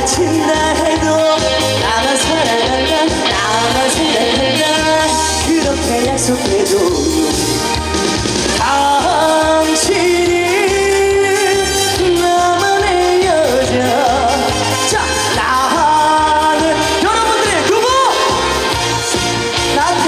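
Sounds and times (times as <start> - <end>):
backing track with pulsing bass: 0.0 - 20.0
person singing with vibrato: 0.0 - 20.0.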